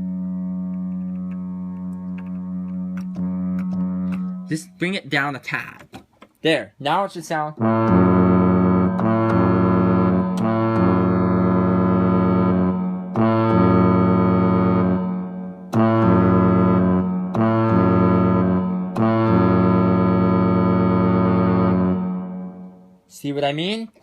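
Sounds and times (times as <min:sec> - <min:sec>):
synthesizer ship horn blasts: 0:00.0 - 0:04.8, 0:07.6 - 0:23.0.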